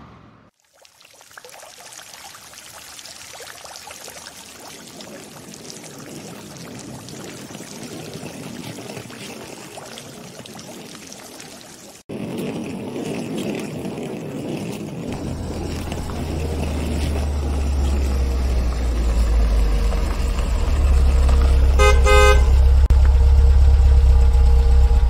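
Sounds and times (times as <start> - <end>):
fountain water splashing: 0.6 - 22.4.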